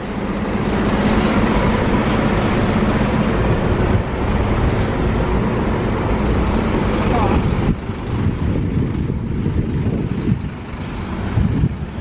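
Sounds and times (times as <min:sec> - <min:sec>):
bus engine hum: 0:00.0 - 0:12.0
road and tyre noise: 0:00.0 - 0:12.0.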